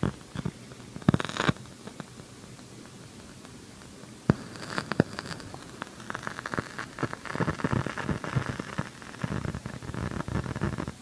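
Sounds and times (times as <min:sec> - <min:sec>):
speaker popping and crackling: 0:00.0 - 0:11.0.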